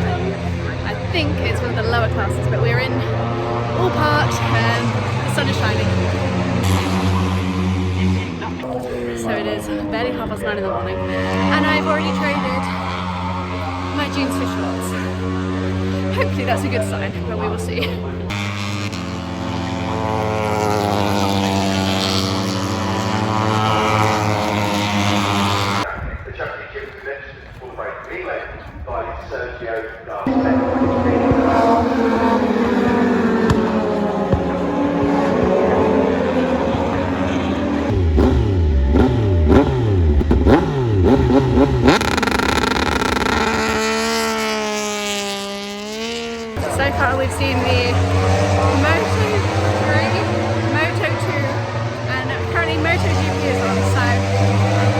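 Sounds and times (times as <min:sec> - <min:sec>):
motor engine drone: 0:00.0 - 0:25.9, 0:30.3 - 0:54.9.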